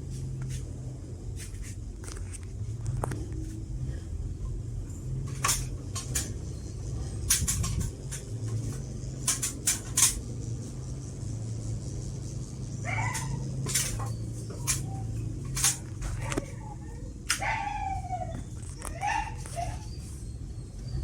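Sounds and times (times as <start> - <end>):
ceiling fan humming: 0.0 - 21.0.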